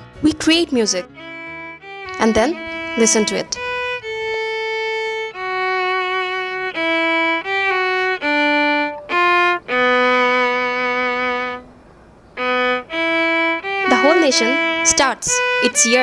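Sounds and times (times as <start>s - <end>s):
solo instrumental melody: 0.0s - 16.0s.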